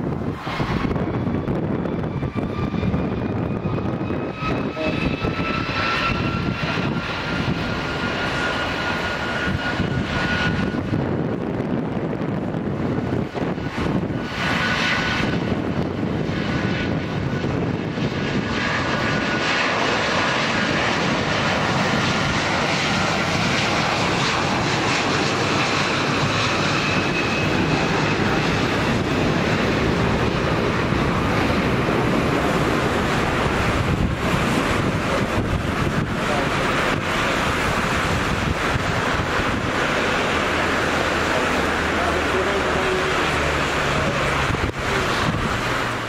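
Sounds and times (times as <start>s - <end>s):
high turbine whine: 0.0s - 46.0s
jet engines roaring: 0.0s - 46.0s.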